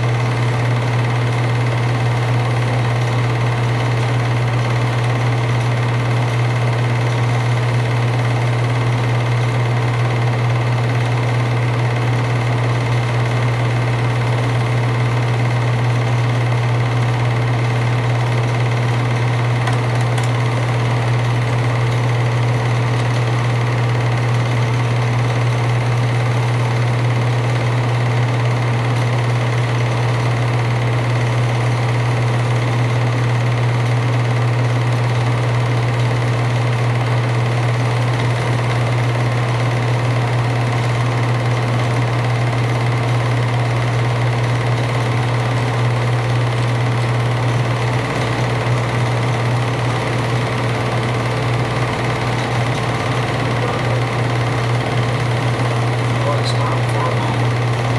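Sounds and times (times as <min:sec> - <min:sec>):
film projector whirring: 0:00.0 - 0:57.9.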